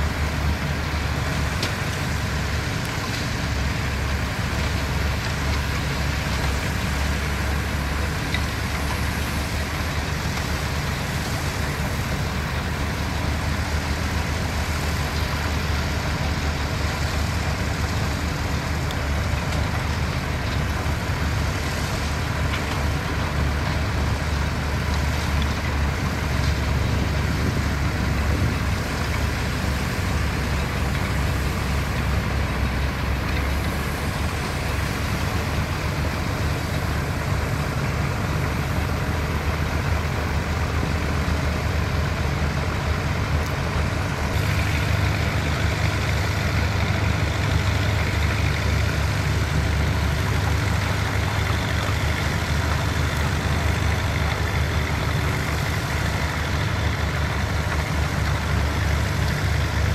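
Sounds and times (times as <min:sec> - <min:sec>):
diesel machinery engine rumble: 0:00.0 - 0:59.9.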